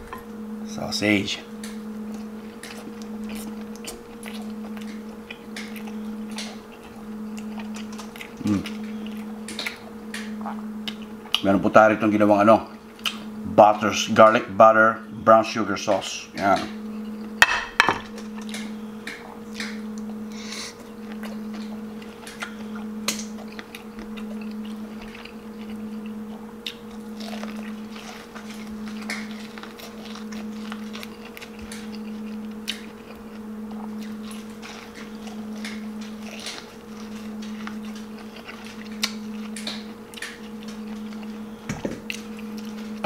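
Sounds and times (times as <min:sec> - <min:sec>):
low hum: 0:00.0 - 0:43.0
person chewing: 0:01.6 - 0:11.5, 0:12.6 - 0:13.3, 0:18.2 - 0:43.0.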